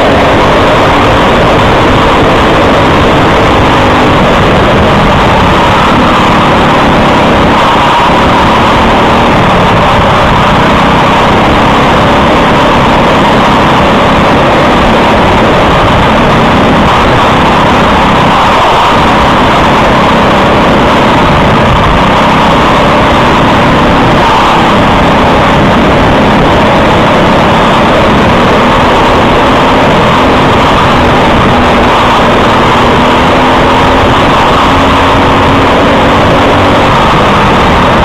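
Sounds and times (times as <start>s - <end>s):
kart engine running: 0.0s - 38.0s.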